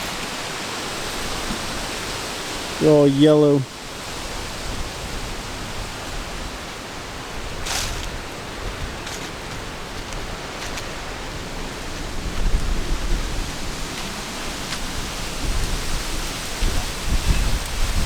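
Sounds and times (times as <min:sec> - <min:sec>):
strong wind on microphone: 0:00.0 - 0:18.0.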